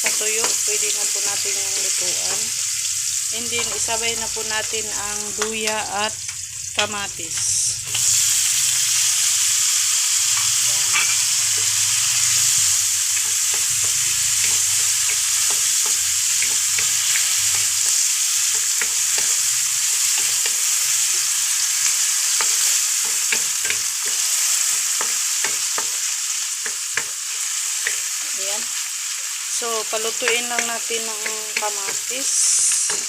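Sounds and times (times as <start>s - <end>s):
vegetables sizzling in hot oil: 0.0s - 33.0s.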